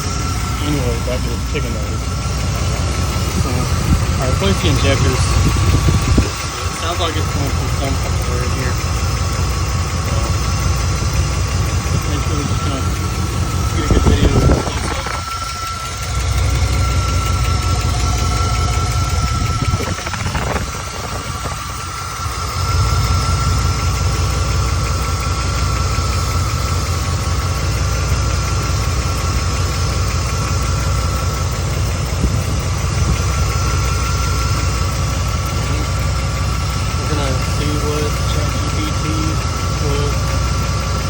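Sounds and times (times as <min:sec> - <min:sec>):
engine idling: 0:00.0 - 0:41.0
ticking from engine bay: 0:00.0 - 0:41.0.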